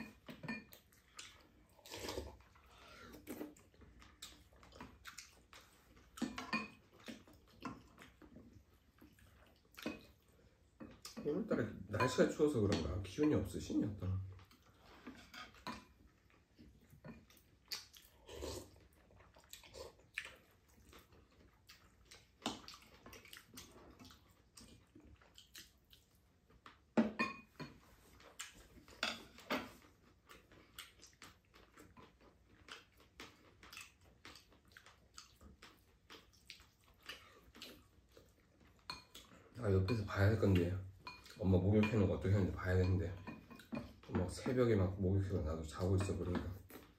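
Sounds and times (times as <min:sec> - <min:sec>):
chewing: 0:00.0 - 0:11.3, 0:14.3 - 0:46.9.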